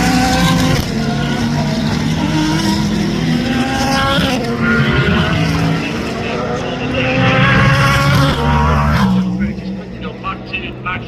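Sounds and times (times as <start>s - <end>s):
race car engines running hard: 0.0s - 11.0s.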